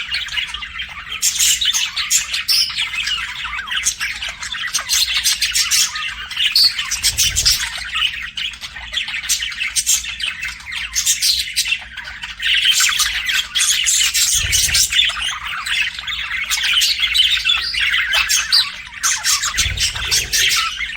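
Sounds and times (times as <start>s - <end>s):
budgerigars chirping and squawking: 0.0s - 20.9s.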